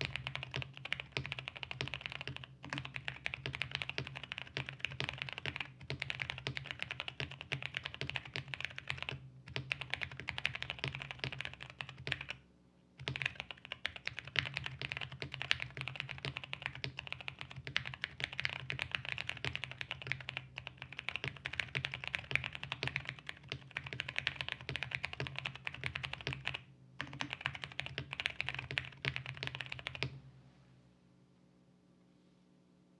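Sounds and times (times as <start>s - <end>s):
typing on mechanical keyboard: 0.0s - 12.4s, 13.0s - 30.1s
steady low hum: 0.0s - 32.9s.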